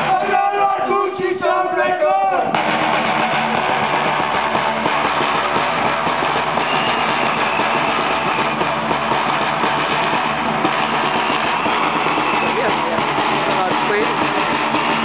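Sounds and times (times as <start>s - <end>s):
fast bass drumming: 2.6s - 15.0s.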